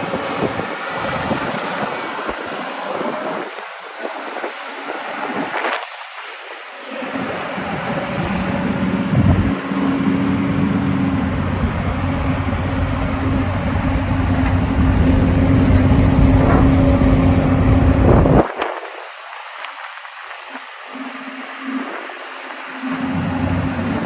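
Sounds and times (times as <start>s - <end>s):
excavator diesel engine running: 0.0s - 18.6s, 21.0s - 24.0s.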